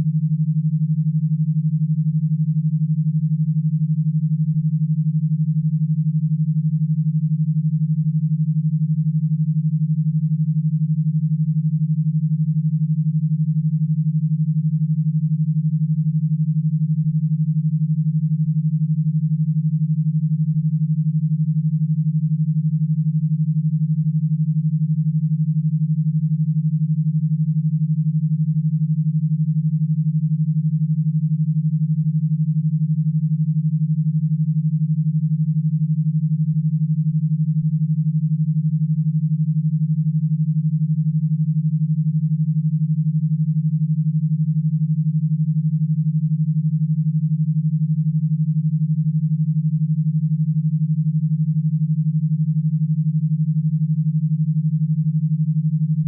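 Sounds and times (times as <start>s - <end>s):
steady synthesized low tone: 0.0s - 56.0s.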